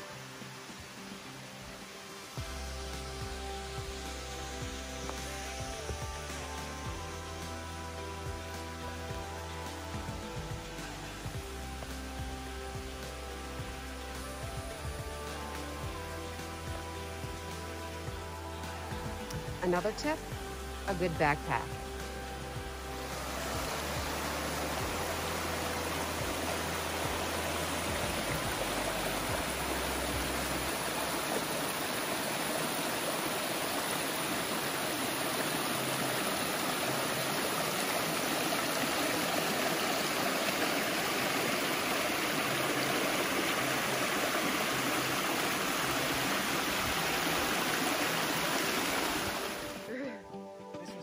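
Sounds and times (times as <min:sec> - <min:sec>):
creek rushing over rocks: 0:00.0 - 0:50.0.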